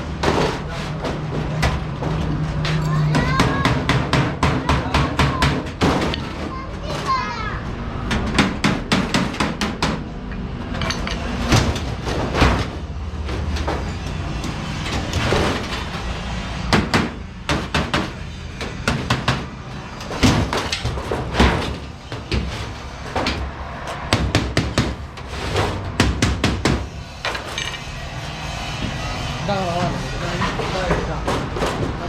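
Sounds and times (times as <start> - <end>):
sheet metal knocks and clanks: 0.0 - 32.0.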